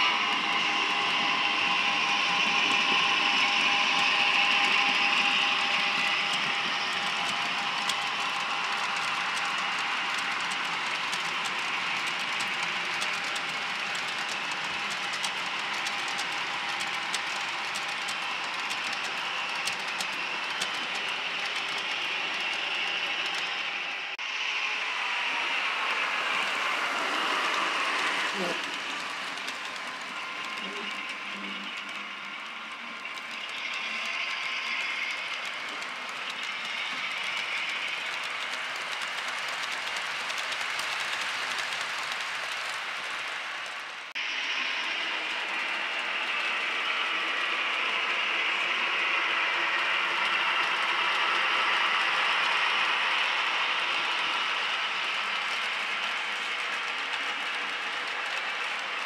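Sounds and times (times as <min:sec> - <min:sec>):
wheels clicking on rail joints: 0:00.0 - 0:24.2, 0:25.6 - 0:59.0
model train wheels rumbling: 0:00.0 - 0:59.0.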